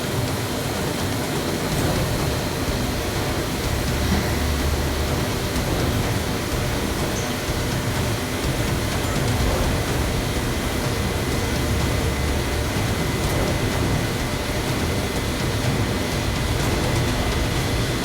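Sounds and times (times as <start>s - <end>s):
airplane engine droning: 0.0s - 18.0s.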